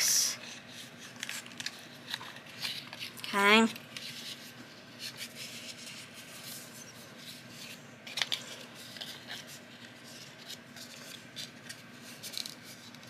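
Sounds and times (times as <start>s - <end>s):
paper being folded and creased: 0.4s - 13.0s.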